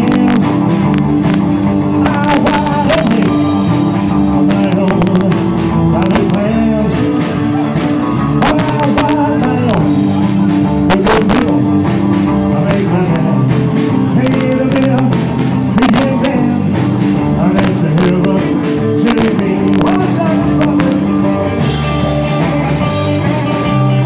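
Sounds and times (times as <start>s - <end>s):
electric guitar: 0.0s - 24.0s
live rock band playing: 0.0s - 24.0s.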